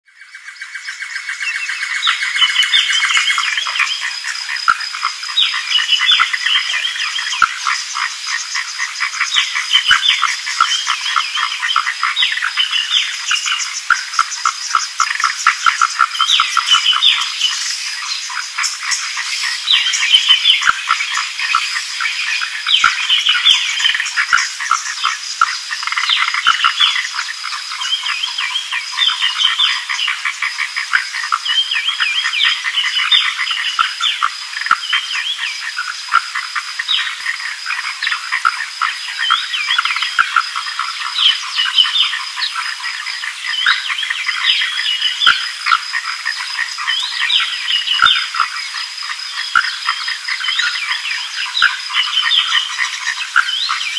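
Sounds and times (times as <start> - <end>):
frogs calling: 0.1 - 53.9.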